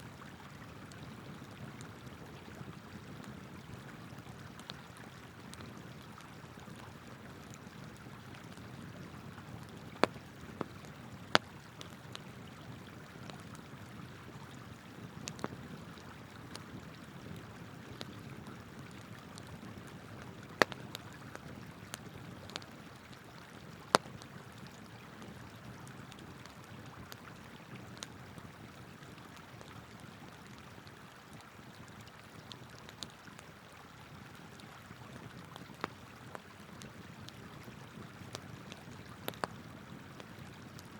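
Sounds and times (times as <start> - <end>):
campfire crackling and popping: 0.8 - 33.4, 34.5 - 40.9.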